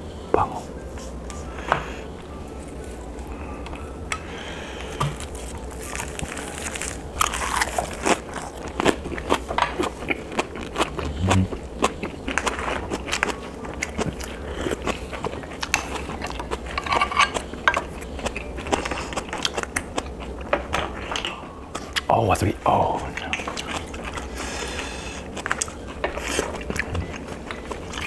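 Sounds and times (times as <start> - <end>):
chewing and crunching: 2.2 - 22.1, 22.9 - 28.0.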